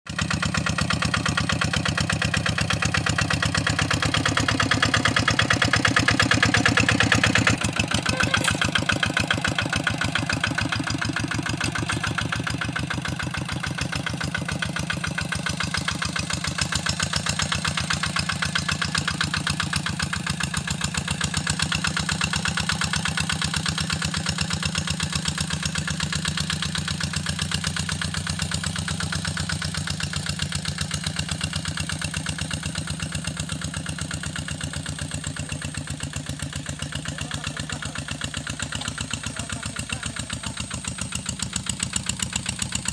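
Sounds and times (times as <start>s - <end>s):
diesel engine chugging: 0.1s - 42.9s.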